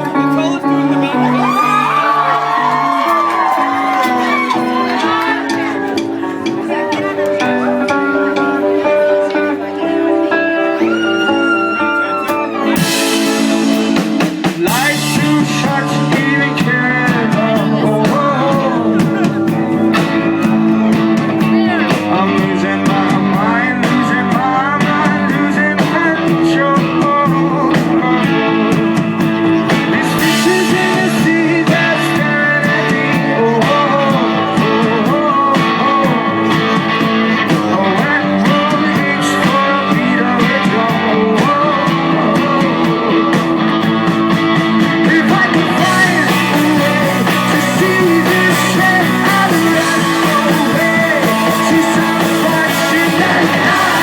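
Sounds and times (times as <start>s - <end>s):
rock band playing live: 0.0s - 54.0s
man singing: 6.9s - 54.0s.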